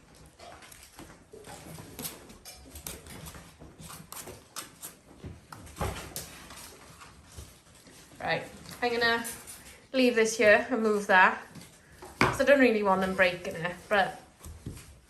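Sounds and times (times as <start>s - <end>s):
puppies scampering and scuffling: 0.0s - 15.0s.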